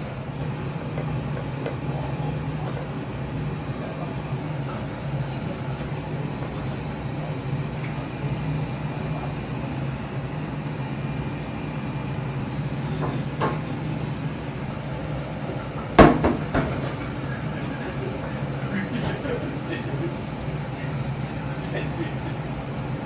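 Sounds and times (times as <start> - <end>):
kitchen hum: 0.0 - 23.0.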